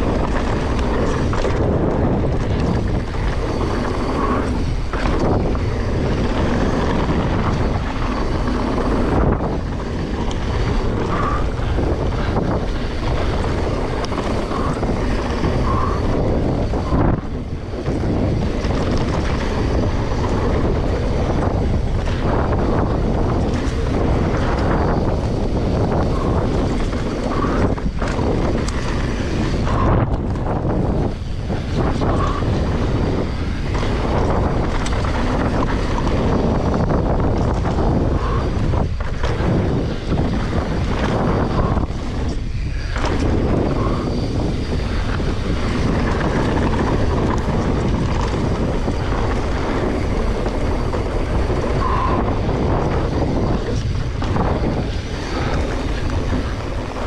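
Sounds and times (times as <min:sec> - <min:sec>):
bike rattling over bumps: 0:00.0 - 0:57.0
bike tyres rolling on dirt: 0:00.0 - 0:57.0
wind buffeting microphone: 0:00.0 - 0:57.0.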